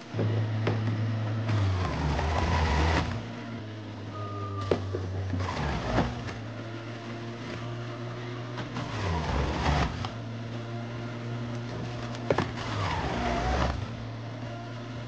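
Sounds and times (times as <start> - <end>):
juicer motor humming: 0.0 - 15.0.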